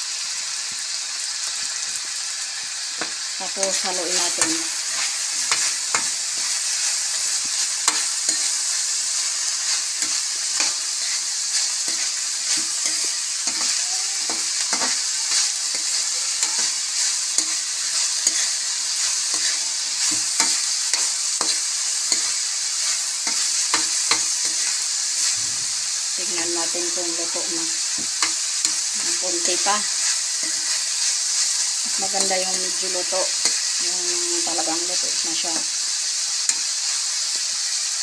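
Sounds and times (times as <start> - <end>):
beans sizzling in hot oil: 0.0 - 38.0
metal spatula scraping a wok: 3.6 - 34.8.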